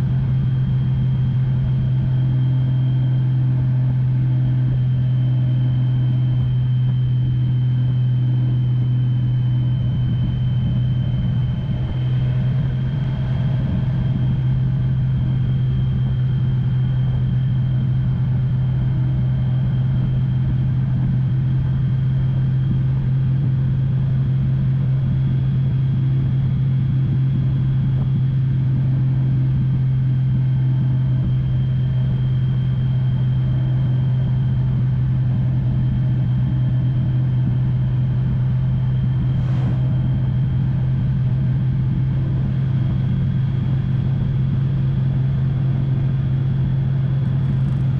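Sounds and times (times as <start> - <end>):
motorcycle engine drone: 0.0 - 47.9
wind and road noise: 0.0 - 47.9.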